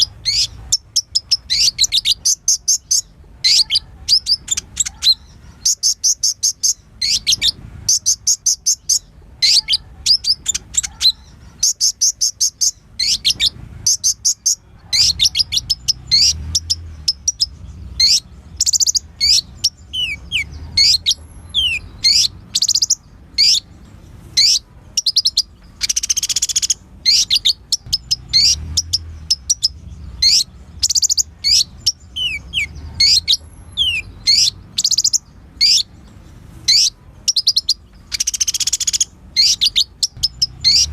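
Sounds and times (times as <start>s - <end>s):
sunbird singing: 0.0s - 40.9s.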